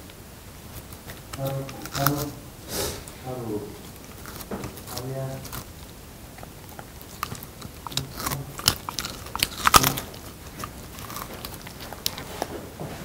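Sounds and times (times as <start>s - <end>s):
dog chewing raw meat: 0.0s - 12.8s.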